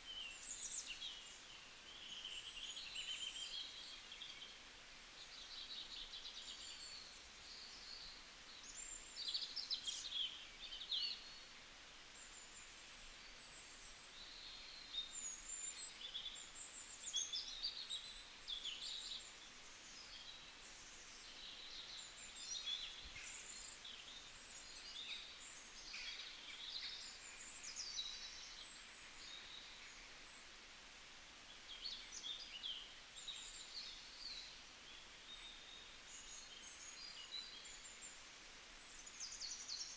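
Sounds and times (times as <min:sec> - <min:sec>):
faint steady background hiss: 0:00.0 - 0:39.9
songbirds chirping and trilling: 0:00.0 - 0:39.9.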